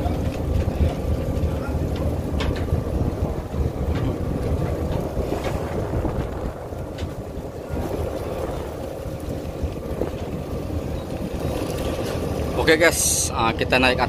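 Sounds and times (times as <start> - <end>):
ship engines droning: 0.0 - 14.0
wind buffeting microphone: 0.0 - 14.0.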